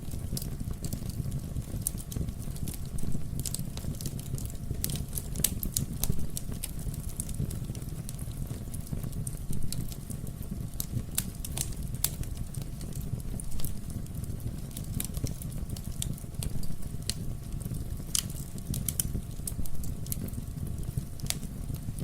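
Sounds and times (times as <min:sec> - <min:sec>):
fire rumbling: 0:00.0 - 0:22.0
logs crackling and popping: 0:00.0 - 0:22.0.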